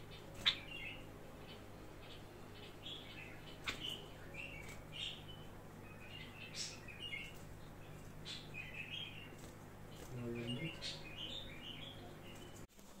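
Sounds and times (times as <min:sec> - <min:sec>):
budgerigar chirping: 0:00.0 - 0:09.4, 0:10.4 - 0:12.6.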